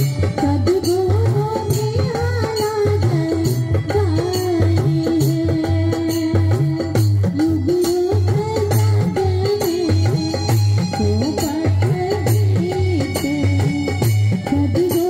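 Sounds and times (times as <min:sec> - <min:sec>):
devotional music over sound system: 0:00.0 - 0:15.0
hand drum rhythm: 0:00.0 - 0:15.0
jingling percussion: 0:00.0 - 0:15.0.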